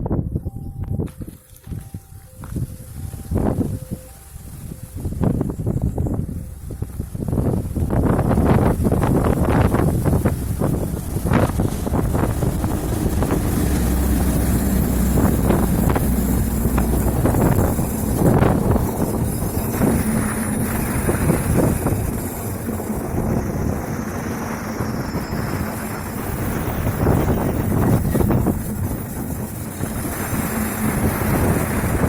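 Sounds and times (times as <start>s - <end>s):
wind buffeting microphone: 0.0s - 32.0s
passenger train rumbling past: 1.7s - 32.0s
train knocks: 5.3s - 32.0s.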